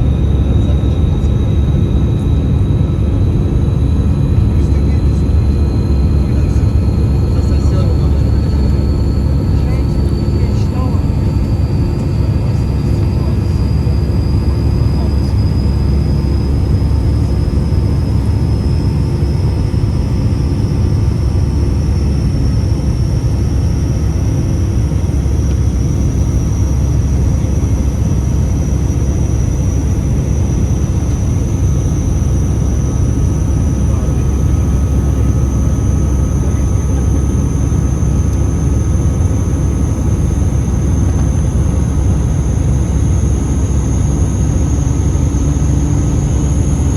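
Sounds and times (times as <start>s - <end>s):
aircraft engine and airflow roar: 0.0s - 46.9s.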